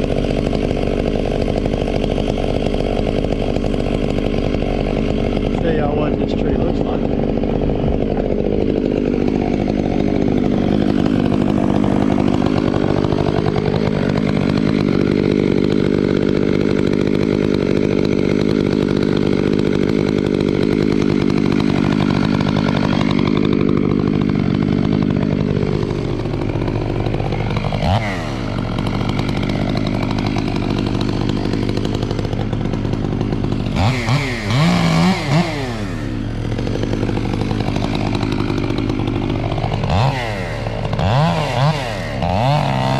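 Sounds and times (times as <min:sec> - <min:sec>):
chainsaw revving: 0:00.0 - 0:42.9
chainsaw running under load: 0:00.0 - 0:42.9.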